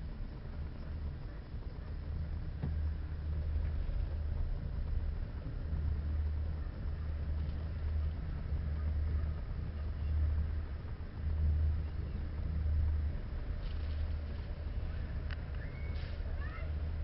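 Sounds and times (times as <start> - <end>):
cable car rumble: 0.0 - 17.0.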